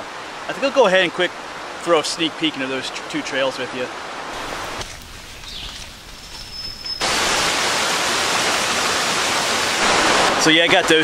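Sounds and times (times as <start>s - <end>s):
softer water noise: 0.0s - 11.0s
waterfall roaring: 0.0s - 11.0s.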